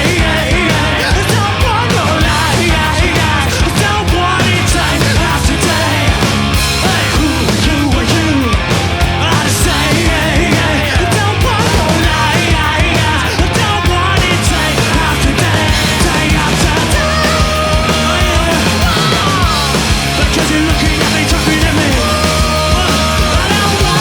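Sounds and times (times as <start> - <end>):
driving drum beat: 0.0 - 24.0
loud rock music: 0.0 - 24.0.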